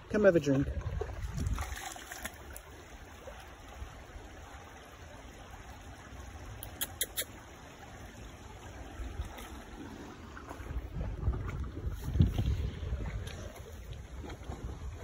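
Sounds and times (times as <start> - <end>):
creek water trickling over stones: 0.0 - 15.0.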